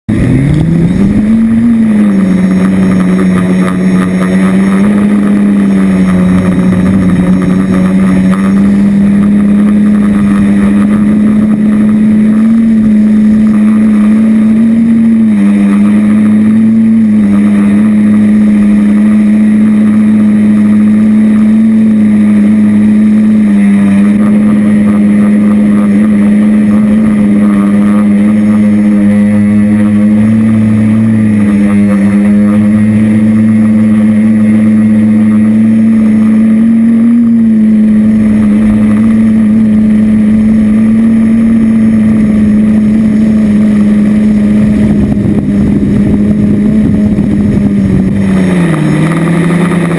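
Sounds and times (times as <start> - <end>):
drone motors buzzing: 0.1 - 49.9.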